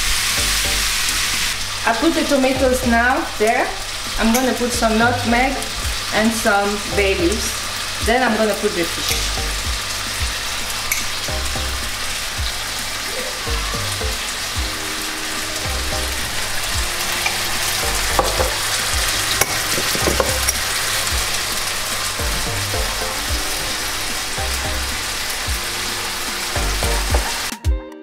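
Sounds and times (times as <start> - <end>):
vegetables sizzling in wok: 0.0 - 27.5.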